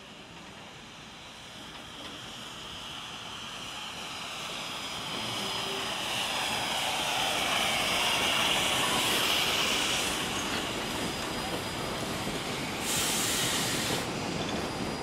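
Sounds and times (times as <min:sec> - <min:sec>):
steam locomotive passing: 0:00.0 - 0:15.0.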